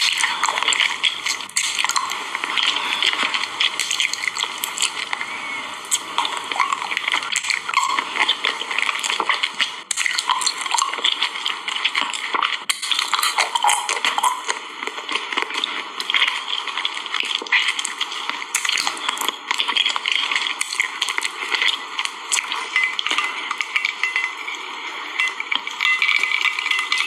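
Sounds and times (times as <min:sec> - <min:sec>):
wet squelching chewing: 0:00.0 - 0:24.6, 0:25.2 - 0:27.0
mouth clicks and crackles: 0:00.0 - 0:27.0.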